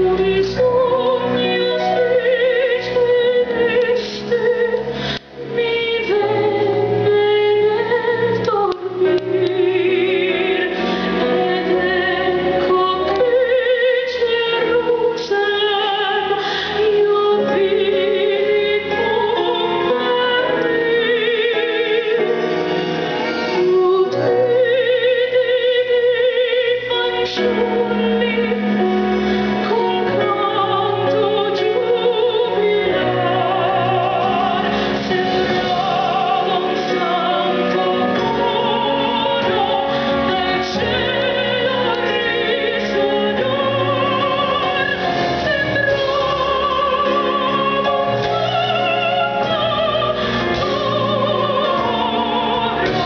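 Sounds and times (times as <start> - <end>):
instrumental accompaniment: 0.0 - 53.0.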